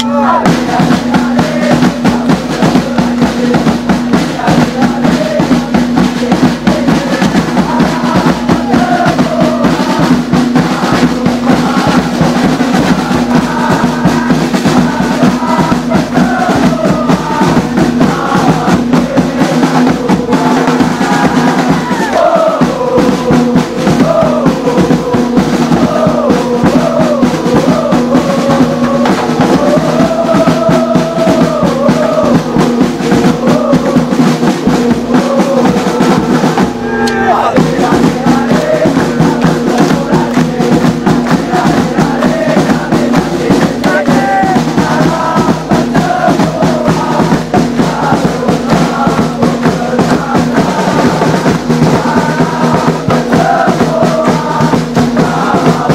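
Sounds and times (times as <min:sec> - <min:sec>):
crowd chanting: 0:00.0 - 0:55.9
snare drums beating fast: 0:00.0 - 0:55.9.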